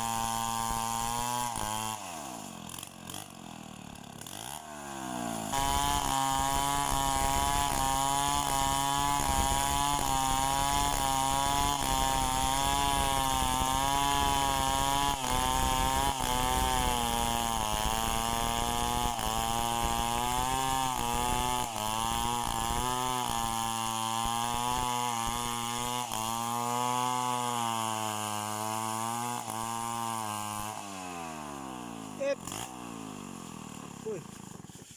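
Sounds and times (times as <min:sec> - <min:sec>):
chainsaw running at high revs: 0:00.0 - 0:34.9.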